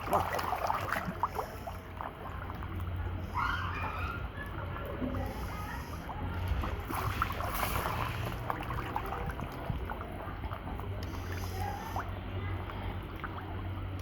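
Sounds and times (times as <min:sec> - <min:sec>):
steady low hum: 0:00.0 - 0:14.0
water splashing in a tank: 0:00.0 - 0:14.0.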